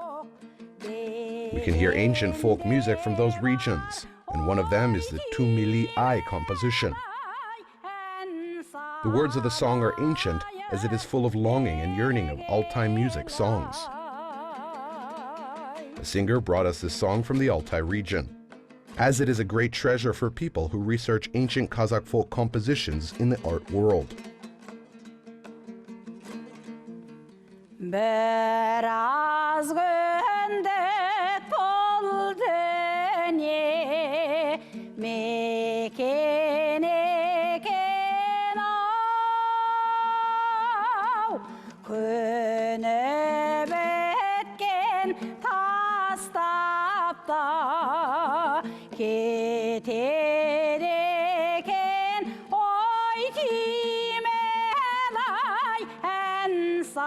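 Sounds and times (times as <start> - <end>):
person singing folk song: 0.0 - 18.4, 19.0 - 24.4, 27.8 - 57.0.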